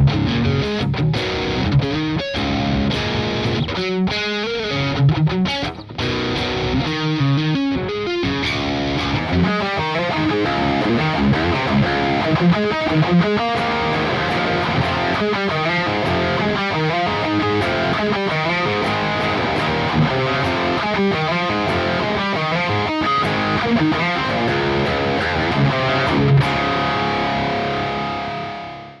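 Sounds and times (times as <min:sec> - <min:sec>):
distorted electric guitar riff: 0:00.0 - 0:29.0.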